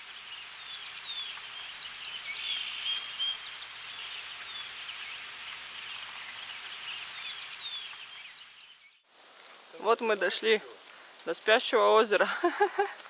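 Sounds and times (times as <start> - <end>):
insects and birds chirping: 0.0 - 13.0.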